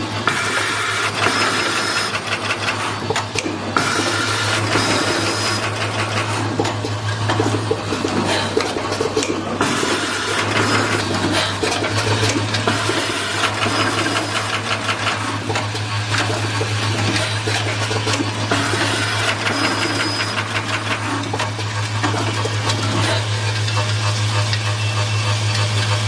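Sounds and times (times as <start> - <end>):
rapid mechanical clicking: 0.0 - 26.0.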